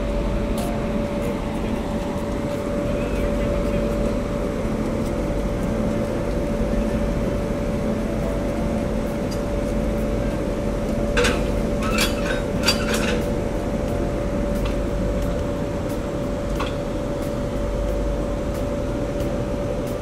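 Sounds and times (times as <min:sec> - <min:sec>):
locomotive humming and whining: 0:00.0 - 0:20.0.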